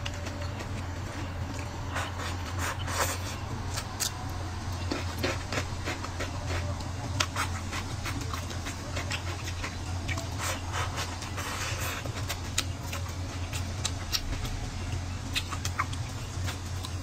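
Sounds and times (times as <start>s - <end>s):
chewing: 0.0s - 14.6s, 15.3s - 17.0s
steady low hum: 0.0s - 17.0s.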